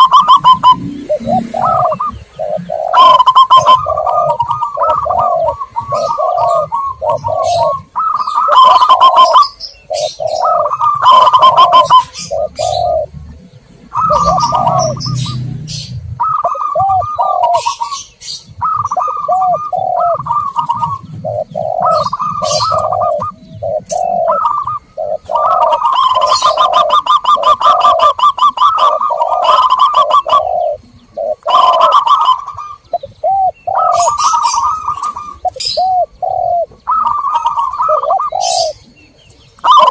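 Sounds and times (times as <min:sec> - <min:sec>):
doves cooing: 0:00.0 - 0:39.9
high chirping: 0:00.0 - 0:39.9.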